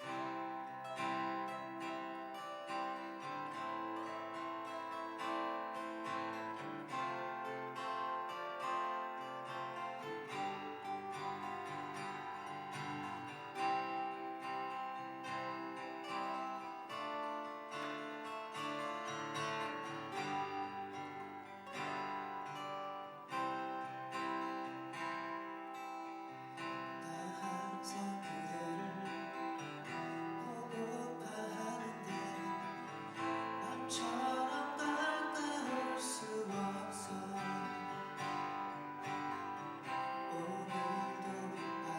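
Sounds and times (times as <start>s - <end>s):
acoustic guitar picking and strumming: 0.0s - 41.9s.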